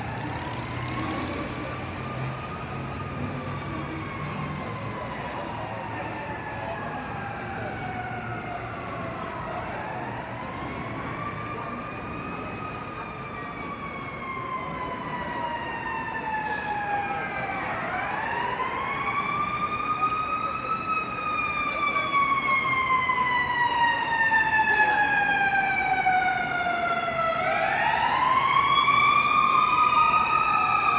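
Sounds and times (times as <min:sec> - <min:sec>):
emergency vehicle siren wailing: 0:00.0 - 0:30.9
second siren wail: 0:00.0 - 0:30.9.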